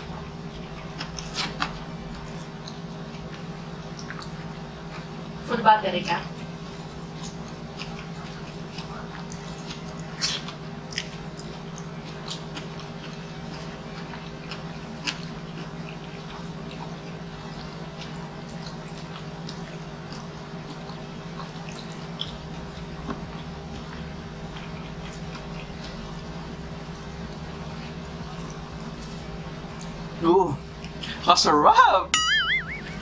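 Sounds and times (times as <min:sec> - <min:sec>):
low electrical hum: 0:00.0 - 0:33.0
close chewing and wet mouth sounds: 0:00.2 - 0:05.2, 0:06.3 - 0:31.2.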